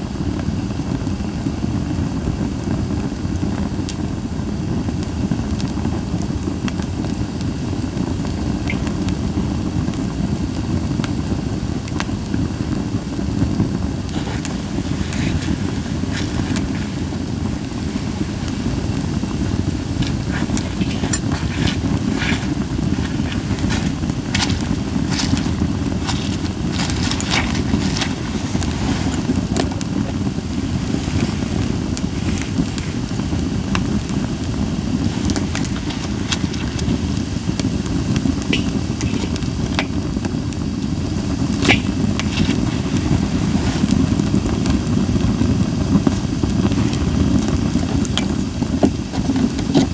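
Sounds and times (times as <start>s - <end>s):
campfire crackling and popping: 0.0s - 49.9s
low fire rumble: 0.0s - 49.9s.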